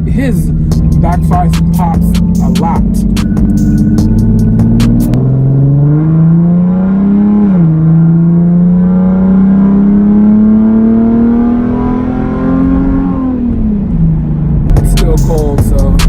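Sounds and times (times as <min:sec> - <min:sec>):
car engine revving at full throttle: 0:00.0 - 0:16.0.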